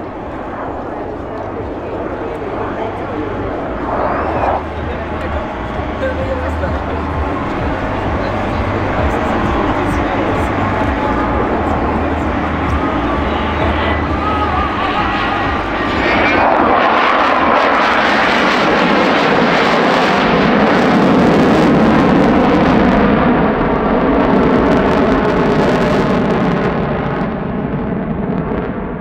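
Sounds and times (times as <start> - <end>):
jet engine roaring overhead: 0.0 - 29.0.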